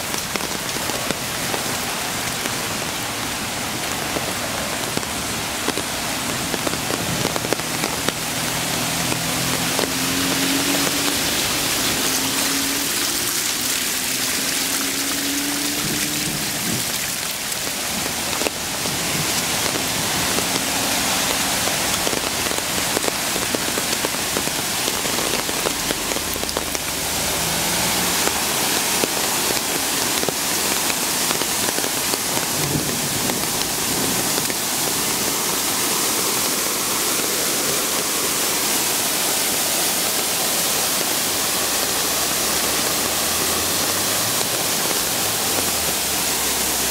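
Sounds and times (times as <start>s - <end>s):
cascade of runoff water: 0.0s - 46.9s
rainwater running and dripping: 0.0s - 46.9s.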